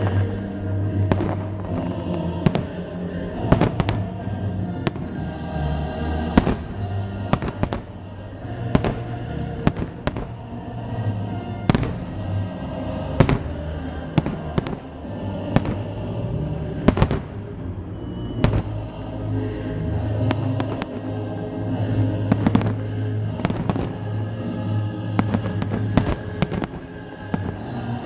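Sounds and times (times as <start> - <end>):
fireworks bangs: 0.0 - 28.0
music playing: 0.0 - 28.0.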